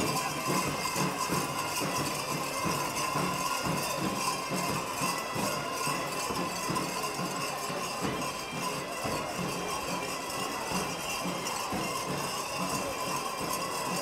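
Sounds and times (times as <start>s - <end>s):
folk dance music: 0.0s - 14.0s.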